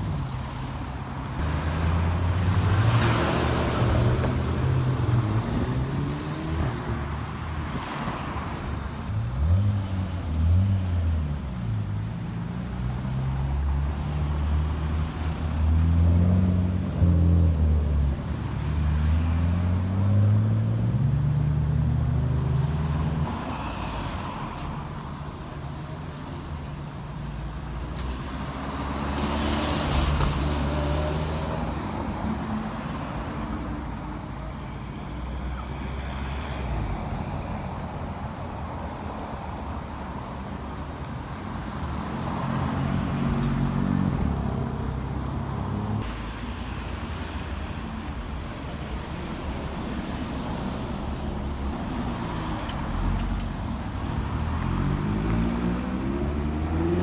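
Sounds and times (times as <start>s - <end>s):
cars driving past: 0.0s - 25.0s, 27.7s - 34.0s, 34.6s - 57.0s.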